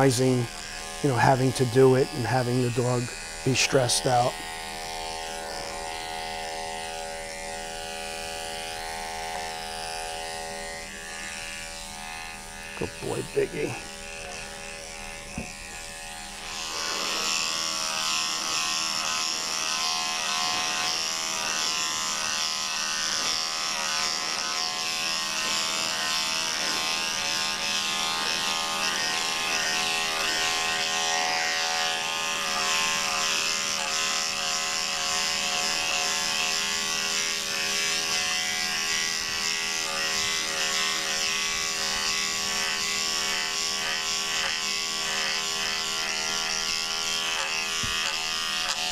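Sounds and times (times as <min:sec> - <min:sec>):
electric clippers buzzing: 0:00.0 - 0:48.9.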